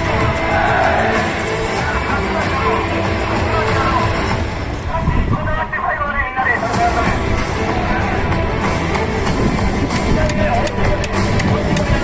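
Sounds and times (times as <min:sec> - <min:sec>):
crowd noise: 0:00.0 - 0:12.0
music over loudspeakers: 0:00.0 - 0:12.0.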